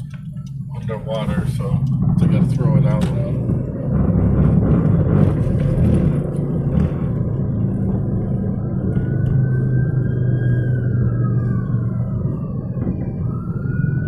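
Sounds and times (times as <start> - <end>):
car cabin road and engine noise: 0.0 - 14.0
faint siren wail: 0.0 - 14.0.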